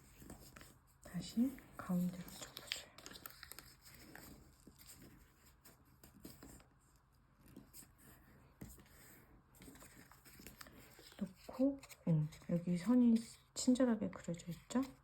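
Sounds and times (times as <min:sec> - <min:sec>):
paper crinkling as it is folded: 0:00.0 - 0:15.0.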